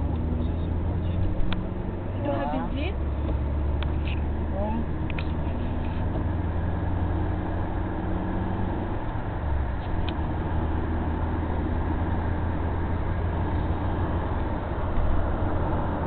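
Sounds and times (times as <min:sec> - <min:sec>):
engine and tyre drone: 0:00.0 - 0:16.0
road and wind noise: 0:00.0 - 0:16.0.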